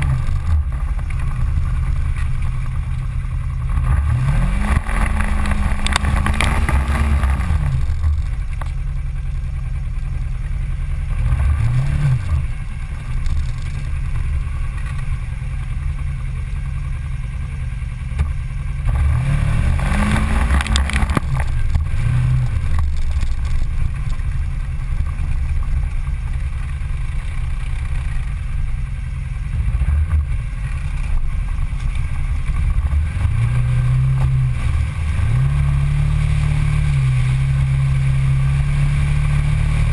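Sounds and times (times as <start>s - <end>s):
engine droning and revving: 0.0s - 39.9s.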